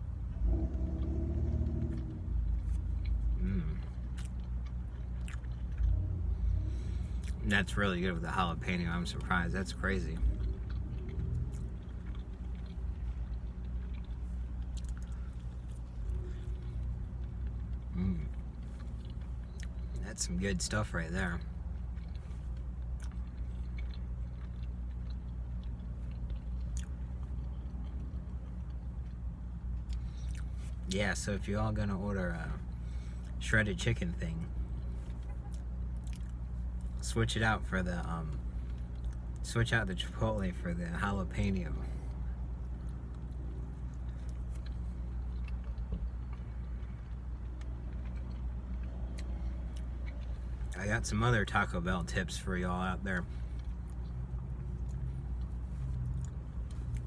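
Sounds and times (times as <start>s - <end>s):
chewing soft food: 0.0s - 37.4s, 38.0s - 40.4s, 41.1s - 57.0s
steady low hum: 0.0s - 57.0s.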